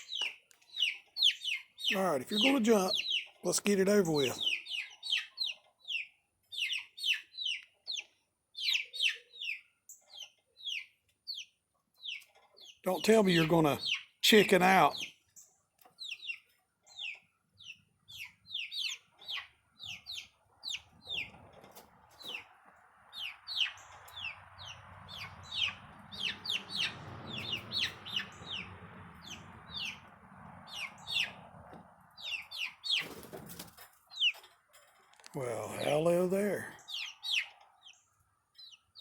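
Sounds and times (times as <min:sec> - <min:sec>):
young chickens peeping: 0:00.0 - 0:39.0.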